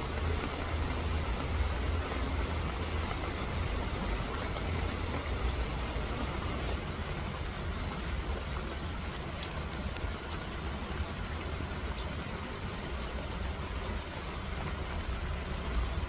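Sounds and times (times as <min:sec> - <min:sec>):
faint drip ticks: 0:00.0 - 0:16.0
steady rain hissing: 0:00.0 - 0:16.0.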